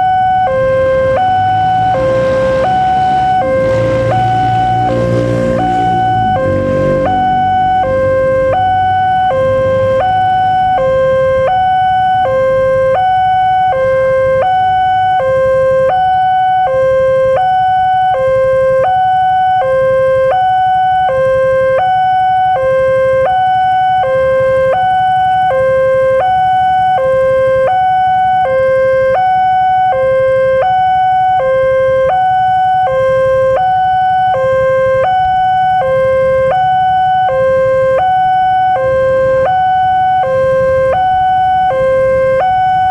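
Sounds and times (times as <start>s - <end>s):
two-tone level crossing alarm: 0.0s - 42.9s.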